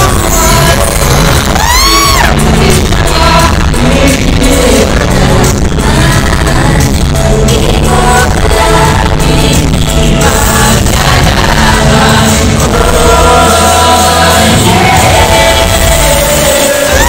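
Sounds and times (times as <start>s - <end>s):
deep bass line: 0.0s - 17.0s
live concert music: 0.0s - 17.0s
person singing: 0.0s - 17.0s.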